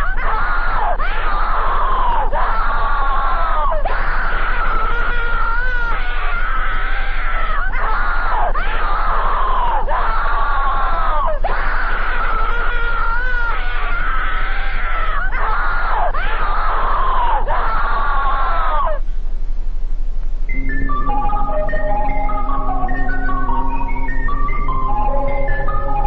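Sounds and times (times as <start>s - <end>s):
distorted screaming: 0.0s - 19.0s, 20.5s - 26.0s
steady low hum: 0.0s - 26.0s.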